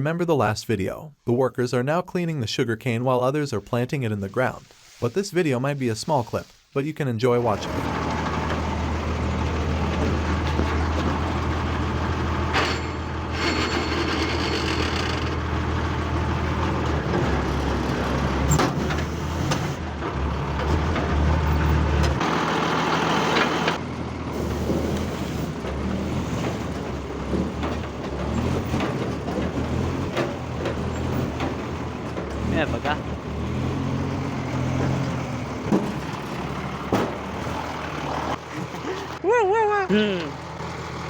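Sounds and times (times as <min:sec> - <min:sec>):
truck engine droning: 0:07.4 - 0:39.2, 0:39.8 - 0:41.0.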